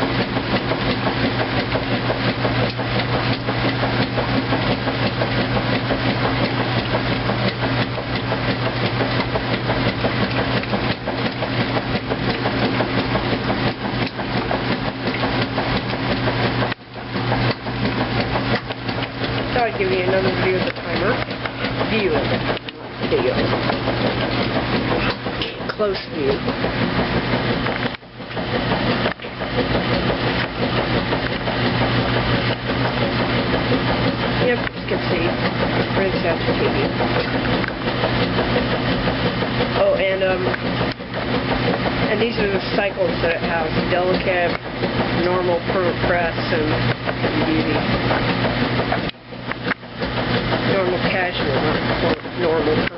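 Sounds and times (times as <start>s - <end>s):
rapid clattering of washing machine: 0.0s - 52.9s
washing machine motor hum: 0.0s - 52.9s.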